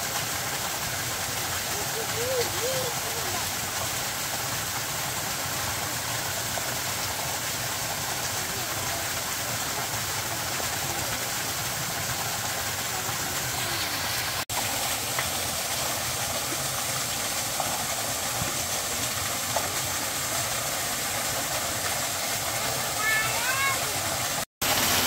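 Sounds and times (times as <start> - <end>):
rushing hiss of water: 0.0 - 25.0.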